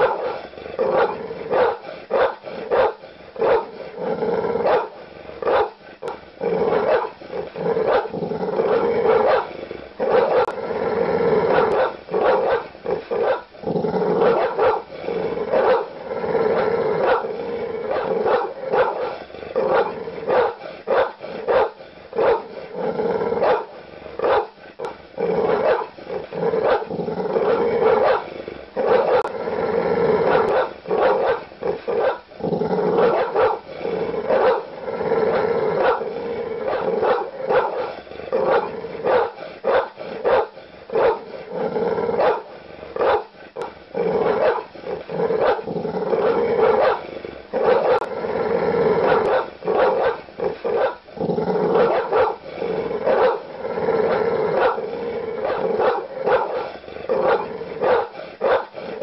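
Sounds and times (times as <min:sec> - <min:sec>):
dog barking angrily: 0:00.0 - 0:03.9, 0:04.5 - 0:10.6, 0:11.3 - 0:29.3, 0:30.0 - 0:48.1, 0:48.9 - 0:59.0
dog growling: 0:00.0 - 0:59.0.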